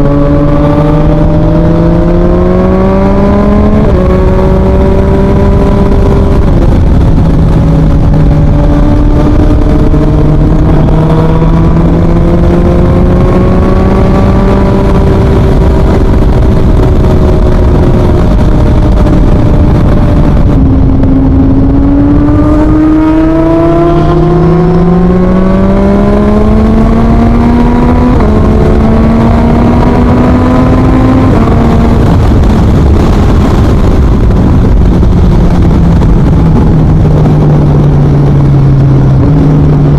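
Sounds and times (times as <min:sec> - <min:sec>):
motorcycle accelerating through gears: 0:00.0 - 0:39.9
wind rush: 0:00.0 - 0:39.9.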